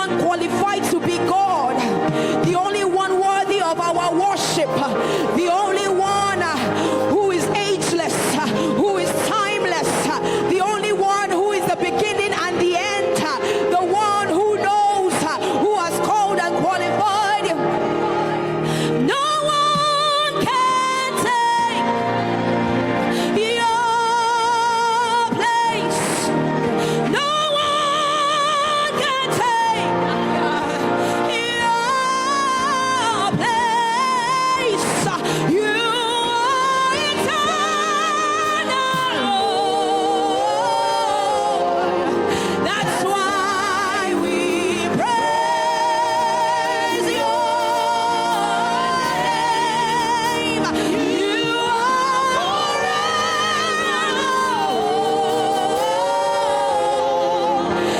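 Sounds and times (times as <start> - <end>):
gospel music: 0.0 - 57.9
person singing with vibrato: 0.0 - 57.9.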